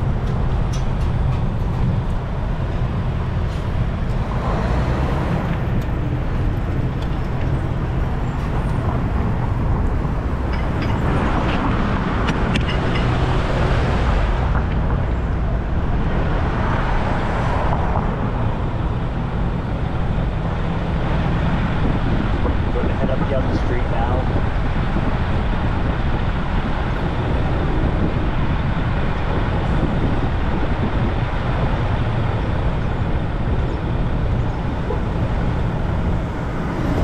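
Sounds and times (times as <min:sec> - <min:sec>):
low traffic rumble: 0:00.0 - 0:37.0
vehicles passing: 0:00.0 - 0:37.0.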